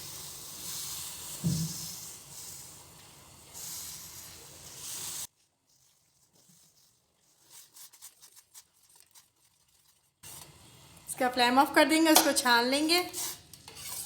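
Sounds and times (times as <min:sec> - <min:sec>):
saucepan boiling hiss: 0:00.0 - 0:14.0.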